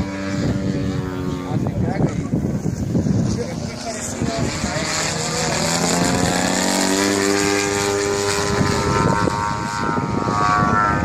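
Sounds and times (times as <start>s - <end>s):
model plane engine buzzing: 0.0s - 11.0s.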